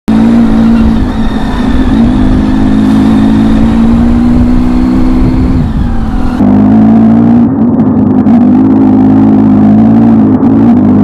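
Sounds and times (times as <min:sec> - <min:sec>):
motorcycle engine deep drone: 0:00.0 - 0:11.0.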